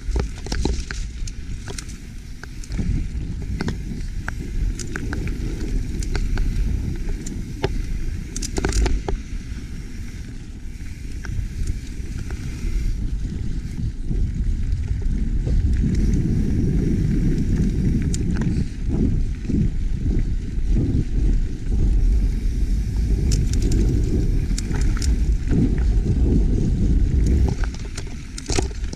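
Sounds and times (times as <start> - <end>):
bike clicking and rattling: 0.0 - 28.9
tyres on loose dirt: 0.0 - 28.9
wind rumble on microphone: 0.0 - 28.9.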